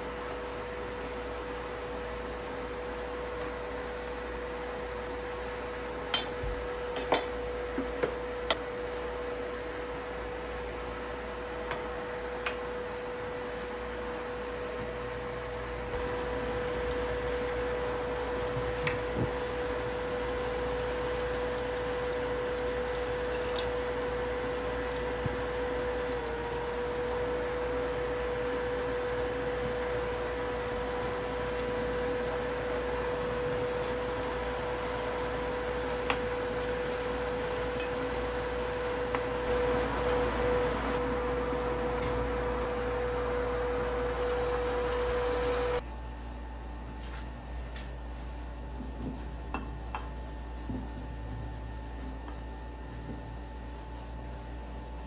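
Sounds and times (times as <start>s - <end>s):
induction cooktop humming: 0.0s - 55.0s.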